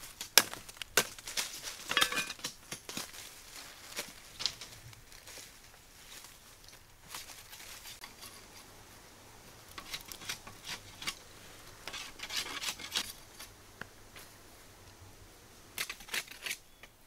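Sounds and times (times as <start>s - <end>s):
wooden sticks scraping and rustling: 0.0s - 15.0s, 15.7s - 17.0s.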